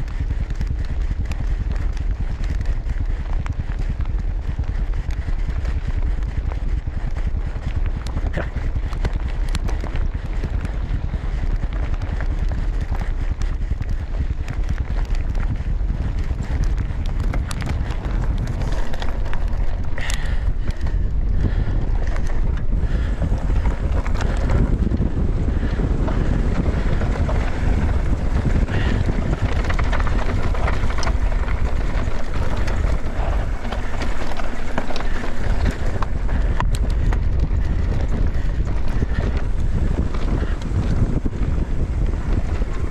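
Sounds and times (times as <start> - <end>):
bike clattering over bumps: 0.0 - 42.9
tyres rolling on dirt trail: 0.0 - 42.9
wind buffeting microphone: 0.0 - 42.9.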